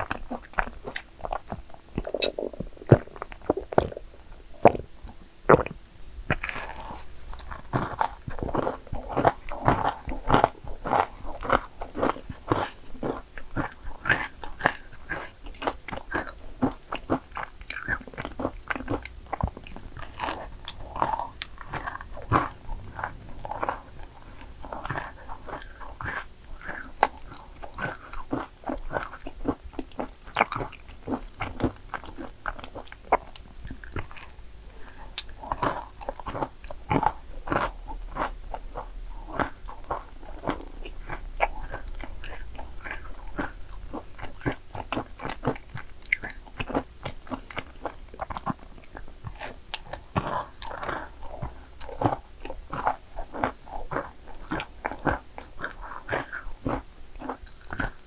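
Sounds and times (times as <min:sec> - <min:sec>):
cookies crunching: 0:00.0 - 0:58.0
moist chewing: 0:00.0 - 0:58.0.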